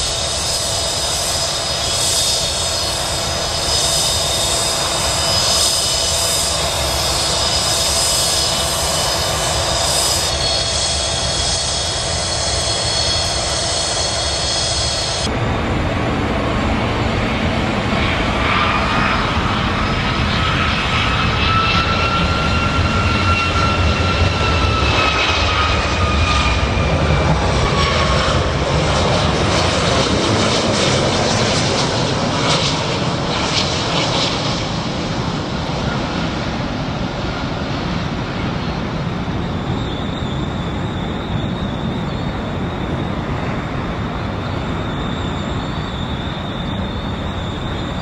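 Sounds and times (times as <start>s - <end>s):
jet engines with fan whine: 0.0s - 48.0s.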